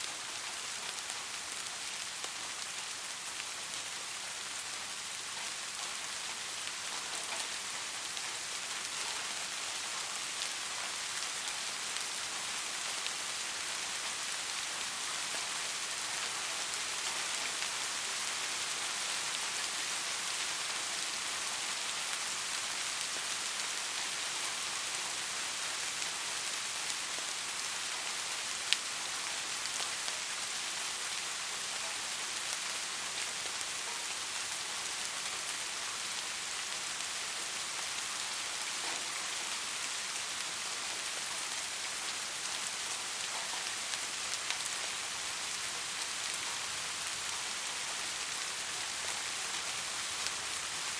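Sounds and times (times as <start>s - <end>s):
rain pattering on a surface: 0.0s - 50.9s.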